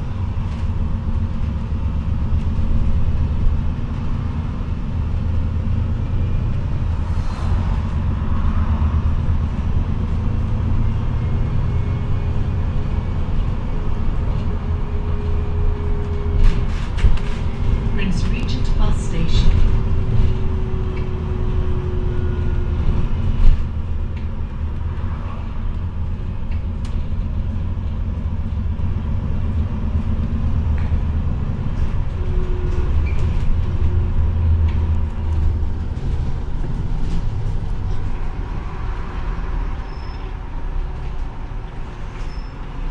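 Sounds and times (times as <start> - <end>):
bus engine drone: 0.0 - 42.9
road noise: 0.0 - 42.9.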